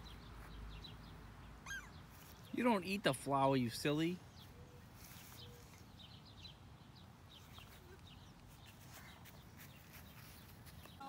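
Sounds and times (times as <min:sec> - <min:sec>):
faint bird chirps: 0:00.0 - 0:02.6, 0:04.3 - 0:11.0.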